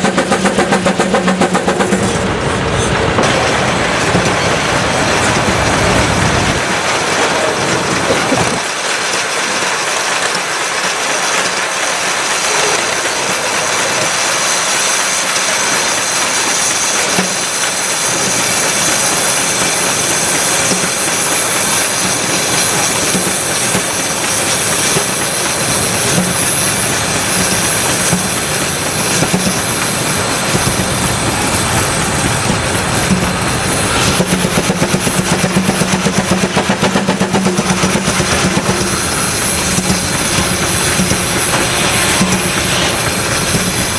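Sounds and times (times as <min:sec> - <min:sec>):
steam engine chuffing: 0:00.0 - 0:43.9.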